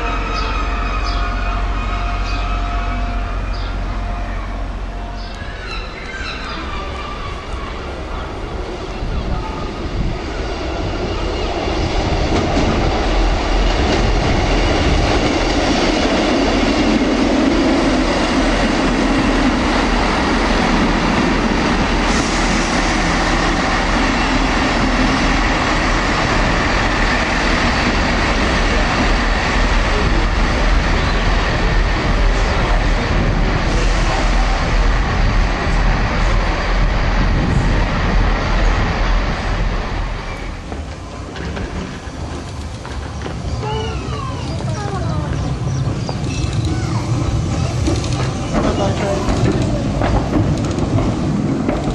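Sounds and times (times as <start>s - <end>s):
diesel train engine: 0.0s - 51.9s
train wheels on rails: 4.5s - 51.9s.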